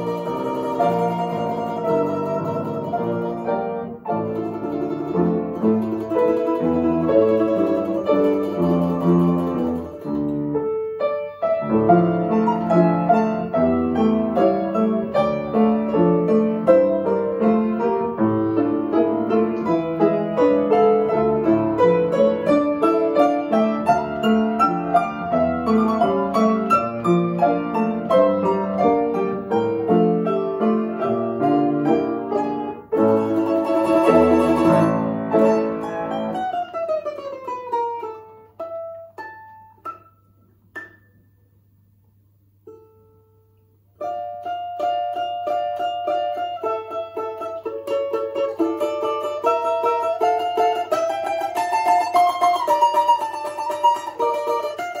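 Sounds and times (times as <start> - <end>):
piano accompaniment: 0.0 - 41.7, 42.6 - 55.0
plucked string notes: 0.0 - 41.7, 42.6 - 55.0.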